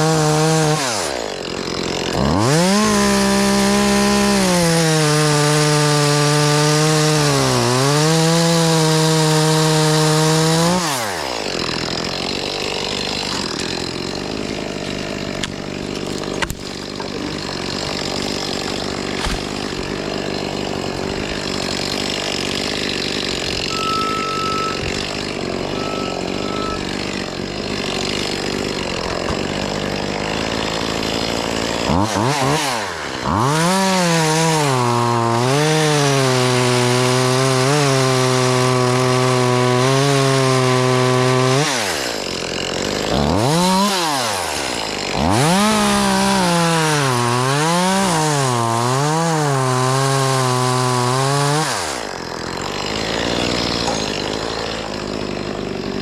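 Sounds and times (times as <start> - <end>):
chainsaw running and revving: 0.0 - 56.0.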